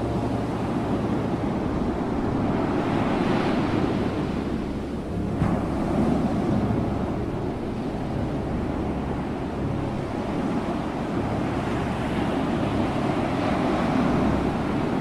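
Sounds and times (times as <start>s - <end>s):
ocean waves rushing: 0.0s - 15.0s.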